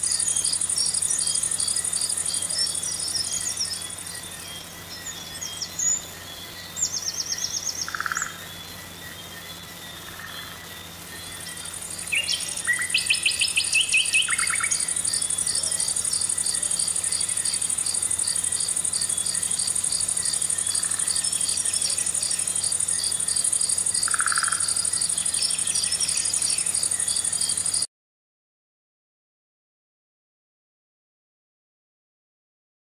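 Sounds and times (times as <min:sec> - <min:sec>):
bird trills: 0:00.0 - 0:10.6, 0:11.2 - 0:27.8
high insect drone: 0:00.0 - 0:27.9
rhythmic chirping: 0:00.0 - 0:27.9.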